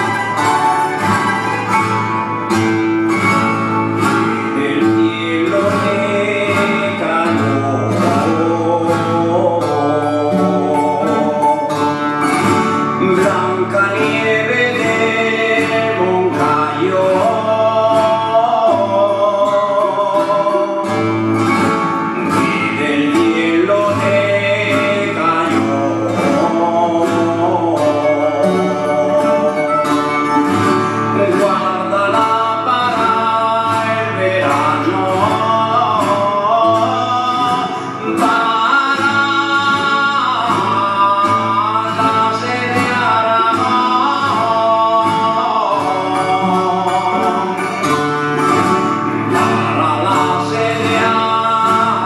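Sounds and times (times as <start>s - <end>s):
plucked string ensemble strumming: 0.0s - 52.0s.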